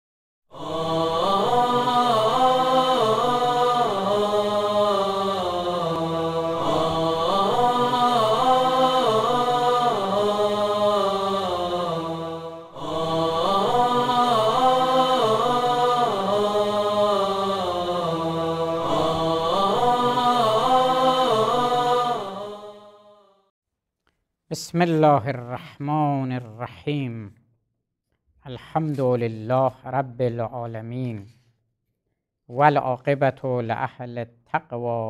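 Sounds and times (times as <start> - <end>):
vocal chanting: 0.5 - 23.3, 24.5 - 27.4, 28.4 - 31.4, 32.5 - 35.0.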